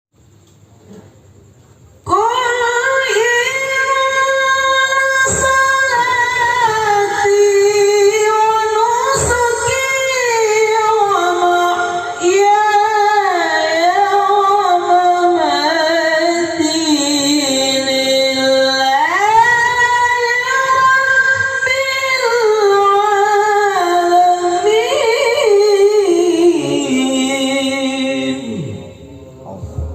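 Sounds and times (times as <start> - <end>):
person reciting in melodic voice: 2.1 - 29.9.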